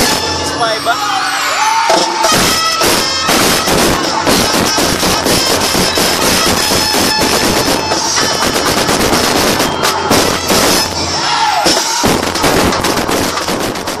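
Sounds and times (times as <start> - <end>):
fireworks crackling: 0.0 - 0.8, 2.3 - 14.0
music: 0.0 - 14.0.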